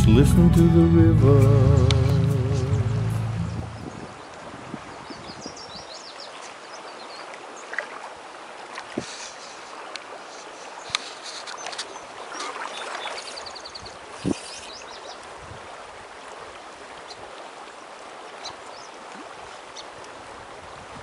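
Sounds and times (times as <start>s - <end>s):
river water flowing: 0.0s - 21.0s.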